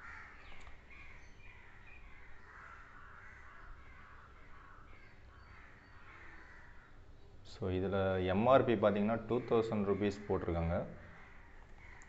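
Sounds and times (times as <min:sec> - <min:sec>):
crows cawing faintly: 0:00.0 - 0:07.4, 0:08.4 - 0:12.0.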